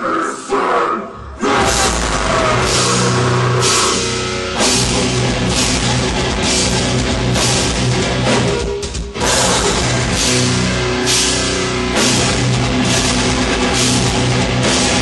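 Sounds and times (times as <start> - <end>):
distorted electric guitar: 1.2 - 15.0
drum kit with crashing cymbals: 1.6 - 15.0.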